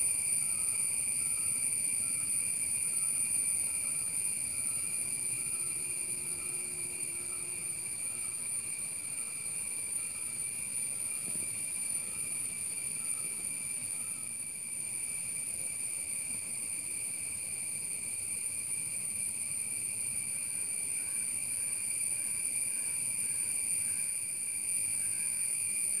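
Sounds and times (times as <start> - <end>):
high-pitched insect trill: 0.0 - 26.0.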